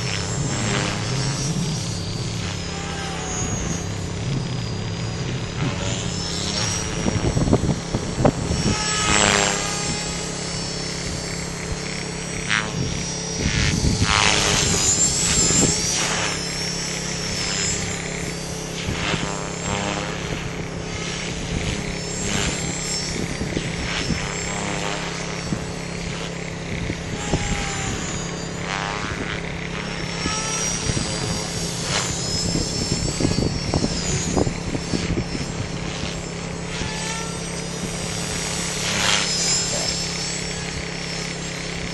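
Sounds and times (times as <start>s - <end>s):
rc helicopter motor and rotor whine: 0.0s - 41.9s.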